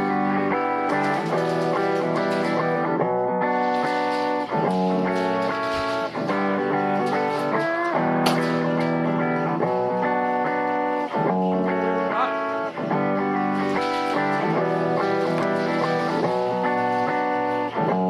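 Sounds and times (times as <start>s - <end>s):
electric guitar chords: 0.0s - 18.0s.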